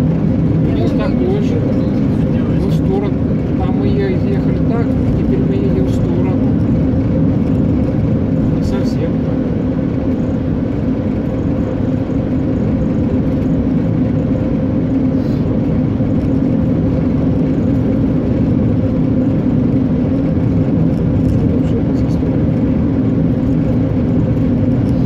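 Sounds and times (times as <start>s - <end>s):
car engine and tyre drone: 0.0s - 25.0s.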